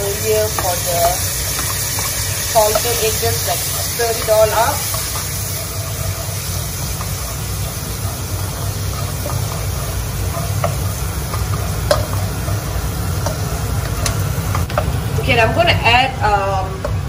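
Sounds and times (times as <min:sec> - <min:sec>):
spatula scraping a wok: 0:00.0 - 0:15.0
food sizzling in butter: 0:00.0 - 0:17.0.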